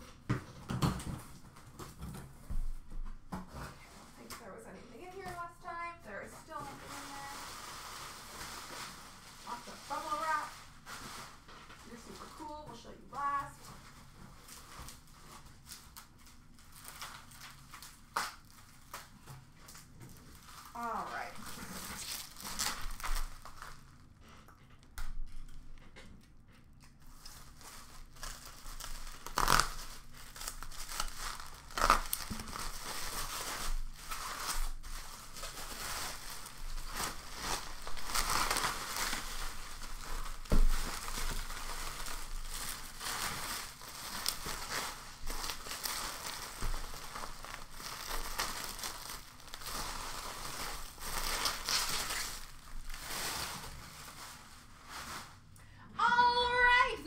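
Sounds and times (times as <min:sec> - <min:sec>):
bubble wrap cracks: 0:00.0 - 0:55.6
bubble wrap crinkling: 0:00.0 - 0:57.0.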